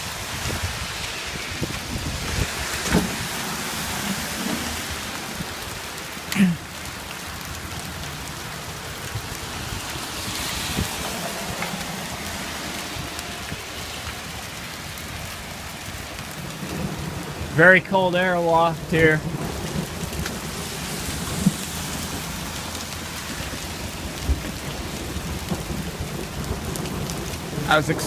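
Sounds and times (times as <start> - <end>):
hail falling: 0.0 - 28.0.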